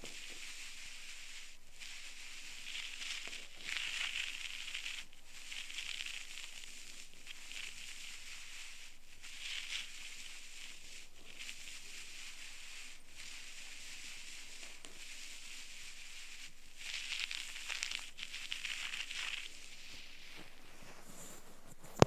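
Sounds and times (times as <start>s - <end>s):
ear pick scraping: 0.0s - 22.0s
steady hiss: 0.0s - 22.0s.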